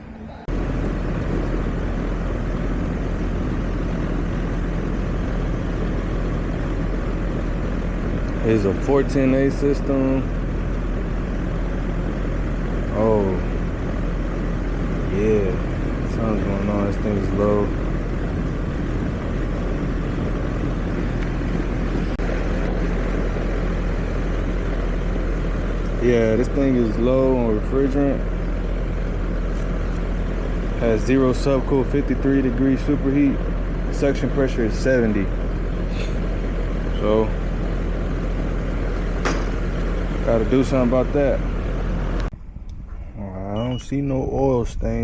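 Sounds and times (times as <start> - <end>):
air conditioner unit whirring: 0.0 - 45.0
low hum: 0.0 - 45.0.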